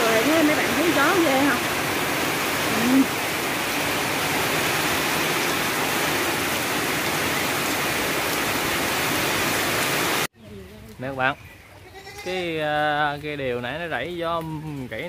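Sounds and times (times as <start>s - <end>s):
heavy rain pouring: 0.0s - 10.3s, 12.4s - 15.0s.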